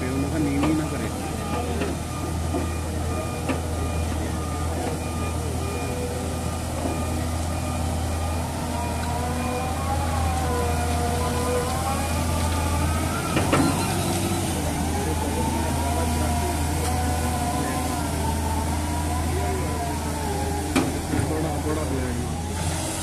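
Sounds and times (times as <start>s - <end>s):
diesel engine droning: 0.0s - 23.0s
hydraulic whine: 0.0s - 23.0s.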